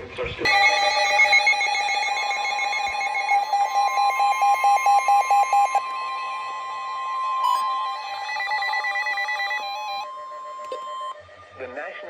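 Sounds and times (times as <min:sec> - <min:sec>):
rapid alert beeps: 0:00.5 - 0:11.2
steady alarm tone: 0:00.5 - 0:12.0.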